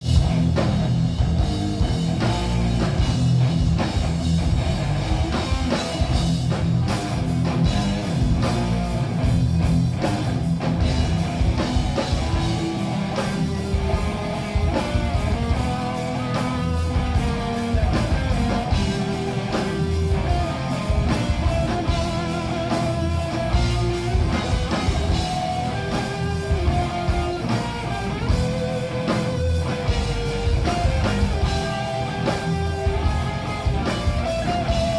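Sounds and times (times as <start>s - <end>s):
heavy metal band playing: 0.0s - 34.9s
melodic guitar line: 1.8s - 34.9s.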